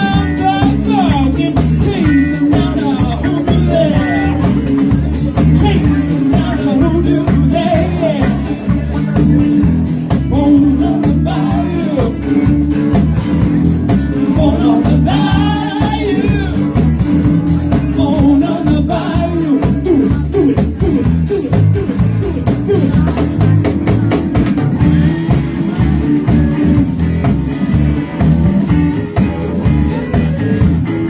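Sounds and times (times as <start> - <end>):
person singing: 0.0 - 13.4, 14.1 - 27.1
bass: 0.0 - 31.0
drums: 0.0 - 31.0
guitar: 0.0 - 31.0.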